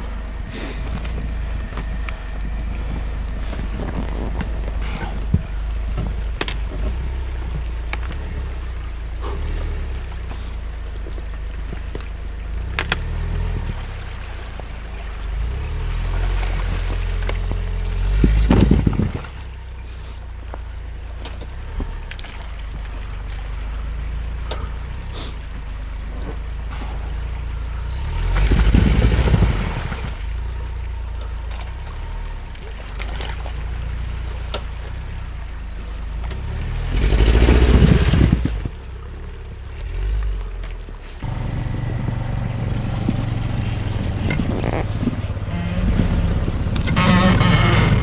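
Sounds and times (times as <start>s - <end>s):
off-road vehicle engine running: 0.0s - 48.0s.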